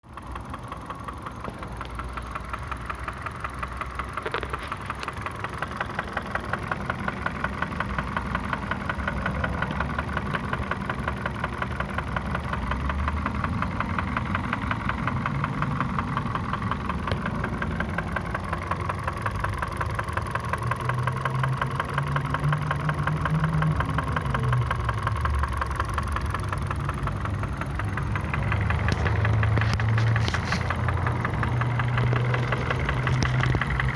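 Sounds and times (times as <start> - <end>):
car engine knocking: 0.0 - 33.9.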